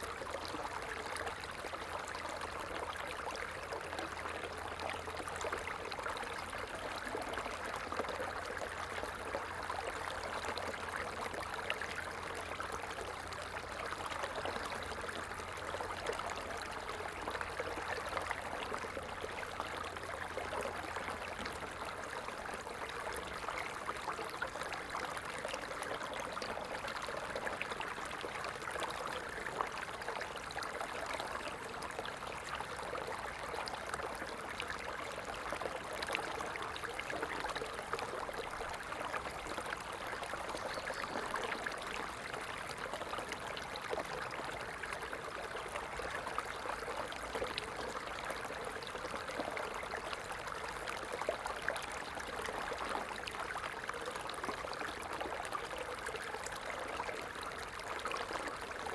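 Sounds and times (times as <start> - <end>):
stream babbling: 0.0 - 58.9.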